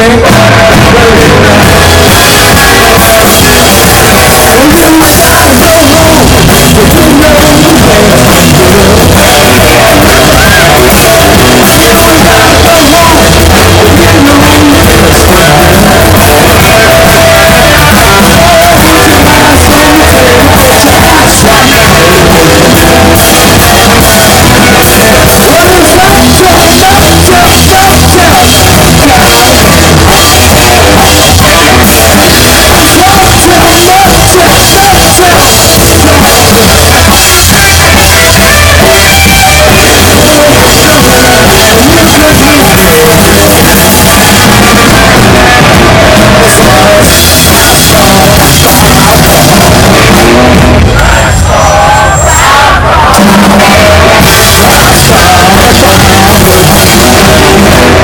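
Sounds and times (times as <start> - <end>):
drum kit: 0.0 - 58.0
electric guitar: 0.0 - 58.0
person singing: 0.0 - 58.0.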